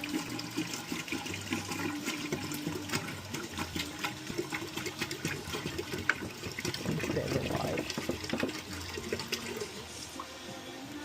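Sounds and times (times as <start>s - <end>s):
water pouring from a bottle: 0.0s - 10.3s.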